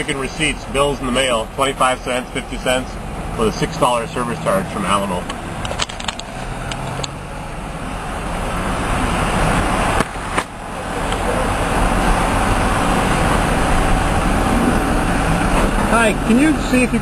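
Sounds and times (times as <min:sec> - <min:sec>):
vehicle engines and traffic: 0:00.0 - 0:17.0.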